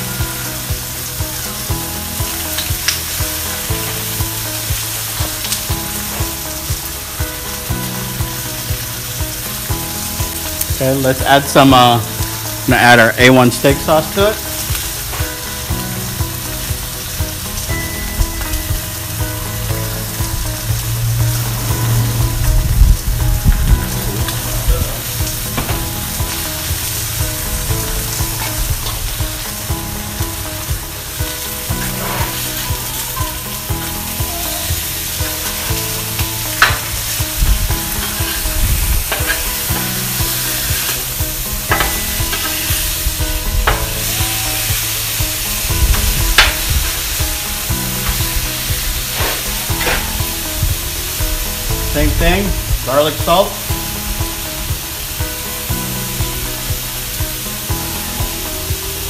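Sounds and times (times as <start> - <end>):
meat sizzling on a griddle: 0.0 - 59.0.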